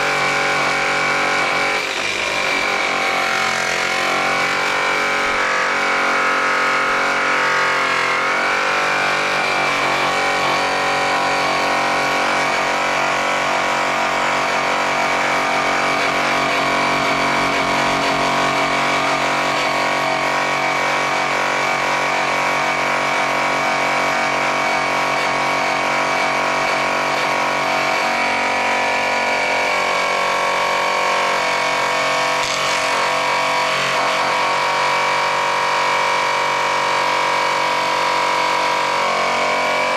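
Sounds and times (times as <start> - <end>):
rotary polisher motor whine: 0.0 - 39.9.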